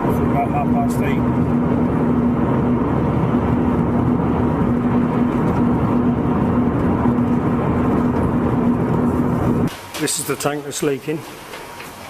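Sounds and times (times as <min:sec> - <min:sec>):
low engine drone: 0:00.0 - 0:09.8.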